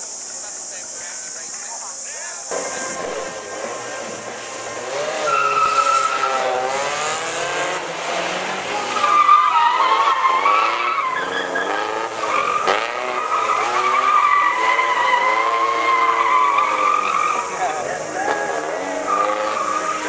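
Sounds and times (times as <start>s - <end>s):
tyres squealing: 2.4s - 7.1s, 8.4s - 20.0s
engine revving: 2.5s - 9.2s, 9.8s - 20.0s.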